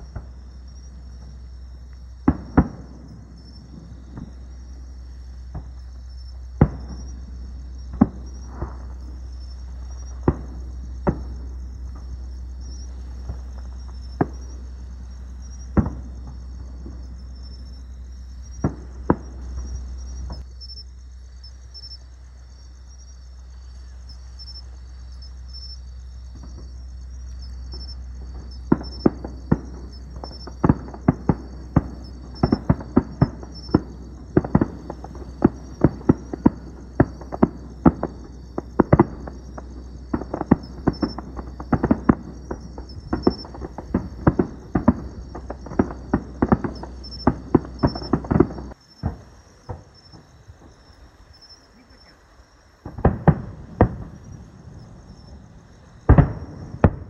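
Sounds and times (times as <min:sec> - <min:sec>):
fireworks booming: 0:00.0 - 0:22.1, 0:22.8 - 0:57.0
low rumble: 0:00.0 - 0:49.6
crickets chirping: 0:00.0 - 0:57.0.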